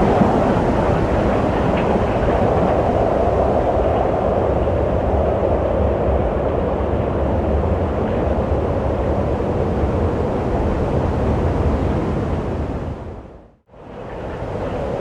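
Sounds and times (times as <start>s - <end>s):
wind blowing: 0.0s - 15.0s.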